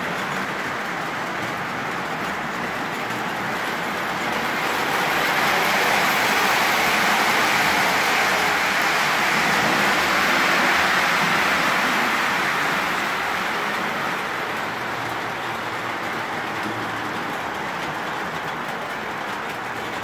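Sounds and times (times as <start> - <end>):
model train wheels and motors rumbling: 0.0 - 20.0.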